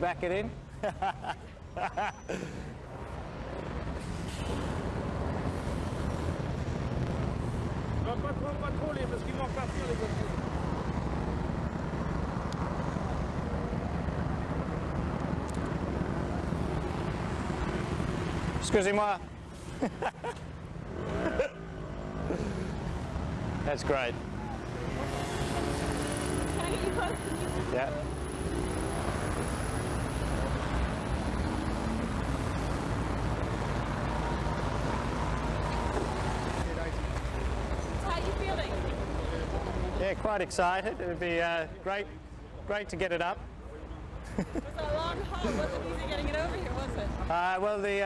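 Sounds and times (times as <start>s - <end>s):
truck engine rumbling: 0.0s - 42.6s
road traffic roar: 0.0s - 48.0s.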